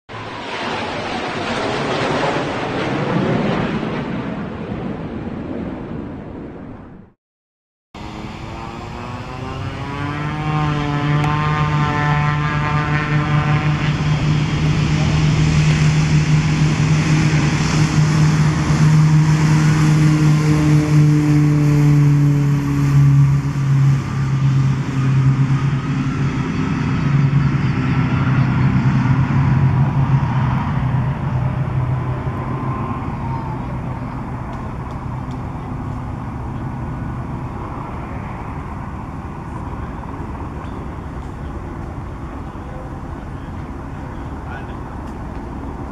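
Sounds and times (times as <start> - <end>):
propeller plane engine drone: 0.1 - 7.1, 8.0 - 45.9.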